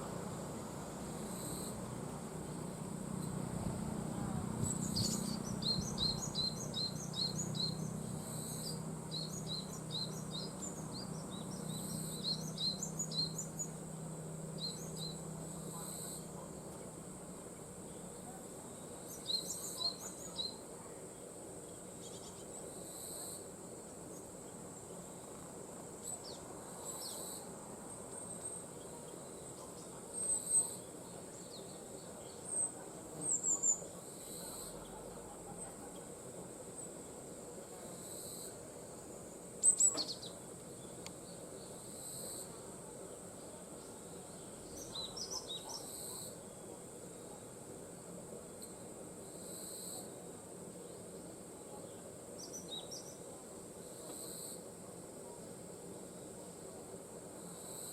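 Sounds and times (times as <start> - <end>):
insects droning with trills: 0.0 - 57.9.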